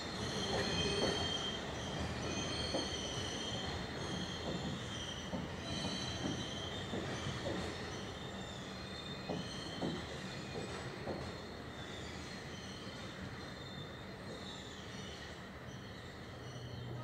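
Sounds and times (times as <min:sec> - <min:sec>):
high wheel squeal: 0:00.0 - 0:10.7, 0:11.3 - 0:17.0
train wheels rumbling on rails: 0:00.0 - 0:17.0.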